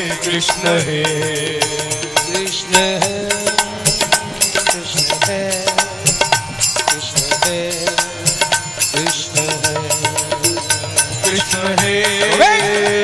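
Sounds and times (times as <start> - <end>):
harmonium chords: 0.0 - 13.0
tabla rhythm: 0.0 - 13.0.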